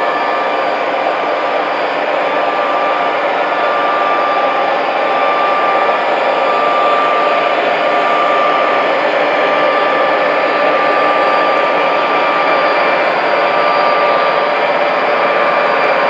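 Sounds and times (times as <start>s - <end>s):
model locomotive engine rumble: 0.0s - 16.0s
steady high hum: 0.0s - 16.0s.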